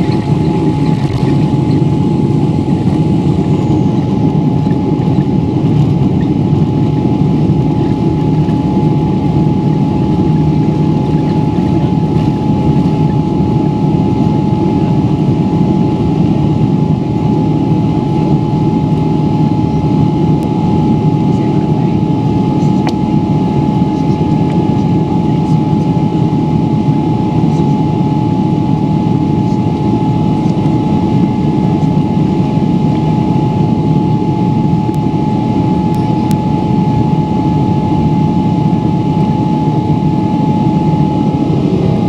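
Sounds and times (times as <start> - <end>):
jet engine rumble: 0.0 - 42.0
jet engine whine: 0.0 - 42.0.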